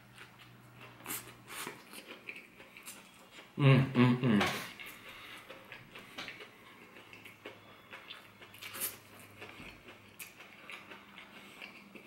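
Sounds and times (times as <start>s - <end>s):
person chewing crunchy food: 0.0s - 3.6s, 4.5s - 12.0s.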